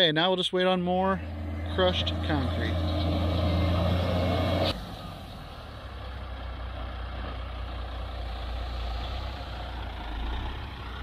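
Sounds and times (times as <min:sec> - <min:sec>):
diesel engine humming: 0:00.8 - 0:11.0.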